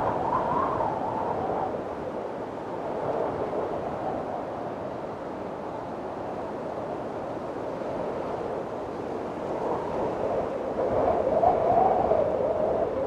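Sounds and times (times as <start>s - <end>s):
strong wind howling: 0.0s - 13.0s.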